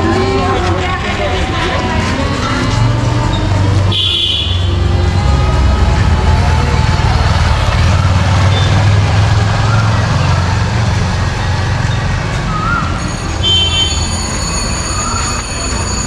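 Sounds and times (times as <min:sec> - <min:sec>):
busy street noise: 0:00.0 - 0:16.0
vehicle engine rumbling: 0:00.0 - 0:16.0.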